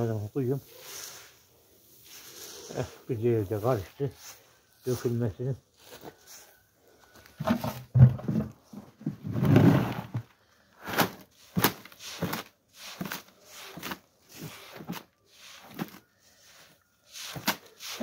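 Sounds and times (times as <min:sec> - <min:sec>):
rustling: 0:00.6 - 0:18.0.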